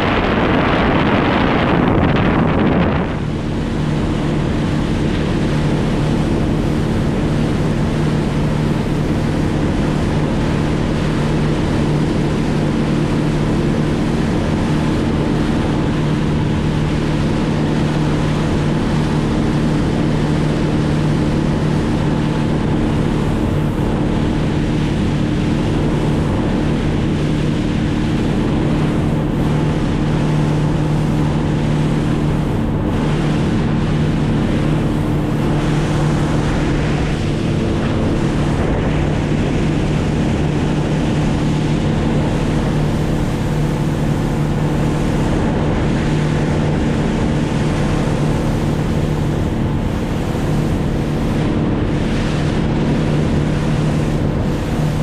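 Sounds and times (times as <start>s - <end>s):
boat motor humming: 0.0s - 55.0s
rushing water: 0.0s - 55.0s
wind: 0.0s - 55.0s.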